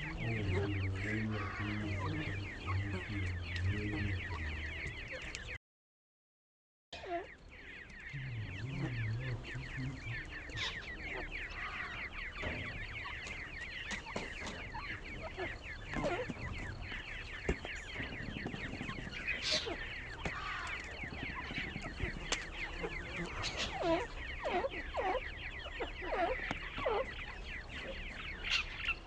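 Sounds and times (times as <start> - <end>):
chicks peeping: 0.0 - 5.6, 7.0 - 29.0.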